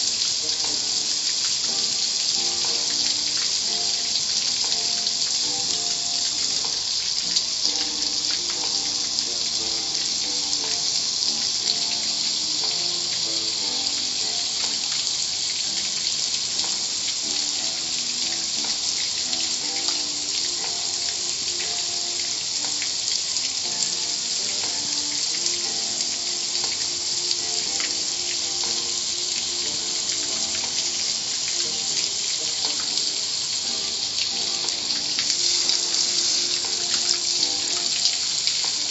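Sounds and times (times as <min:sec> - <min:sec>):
faint music: 0:00.0 - 0:38.9
water jets spraying: 0:00.0 - 0:38.9.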